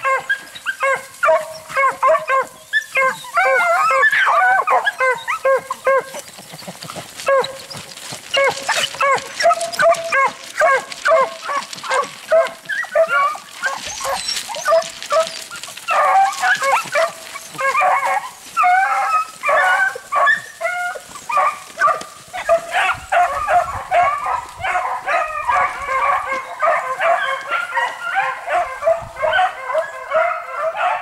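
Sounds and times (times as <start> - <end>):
beagles baying in chorus: 0.0 - 6.3, 7.2 - 31.0.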